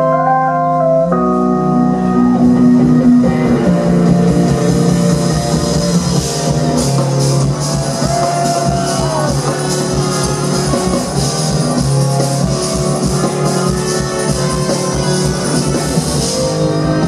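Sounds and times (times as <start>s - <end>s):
jazz fusion band playing: 0.0s - 17.0s
keyboard chords: 0.0s - 17.0s.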